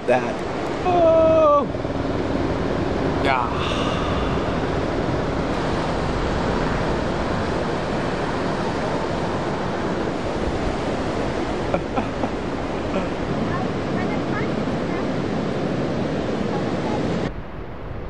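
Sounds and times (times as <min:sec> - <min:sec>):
heavy surf breaking: 0:00.0 - 0:18.0
wind on the microphone: 0:00.2 - 0:18.0.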